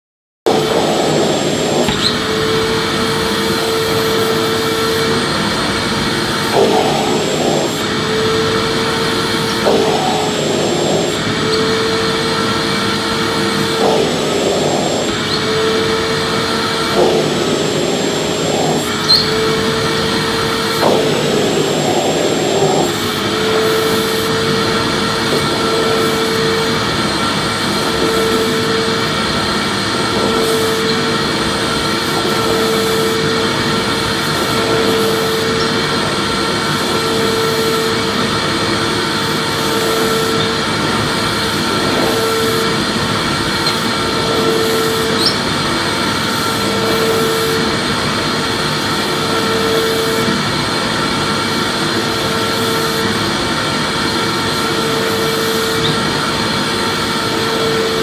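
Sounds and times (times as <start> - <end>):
vacuum cleaner running: 0.4 - 58.0.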